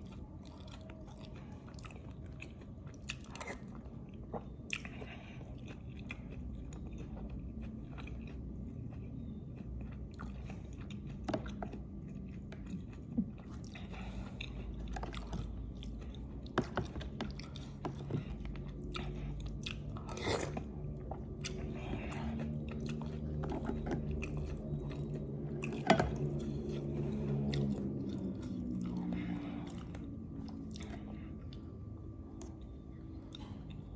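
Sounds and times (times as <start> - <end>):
chewing and biting mouth sounds: 0.0 - 33.9
low hum: 0.0 - 33.9.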